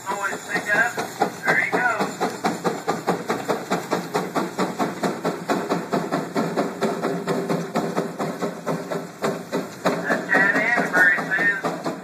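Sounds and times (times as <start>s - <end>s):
steady steam hiss: 0.0s - 12.0s
steam engine exhaust chuffing: 0.0s - 12.0s.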